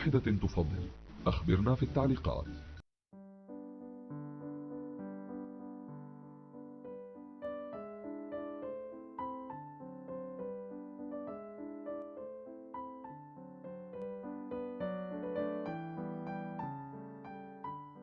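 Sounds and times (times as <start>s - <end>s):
gentle piano melody: 1.6s - 18.0s.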